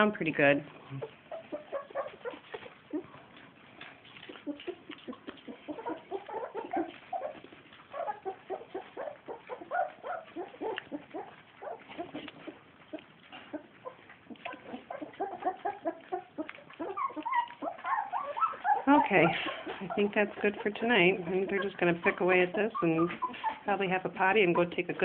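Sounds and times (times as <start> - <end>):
puppies squeaking and grunting: 0.0 - 25.0
wet smacking and lapping: 0.8 - 23.7.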